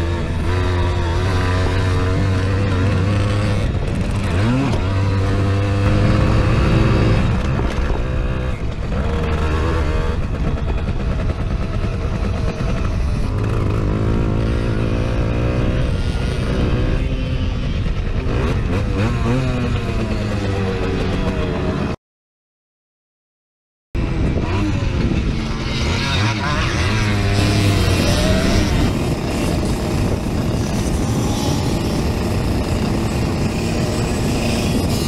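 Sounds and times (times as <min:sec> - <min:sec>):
moped engine revving: 0:00.0 - 0:22.0, 0:24.0 - 0:35.0.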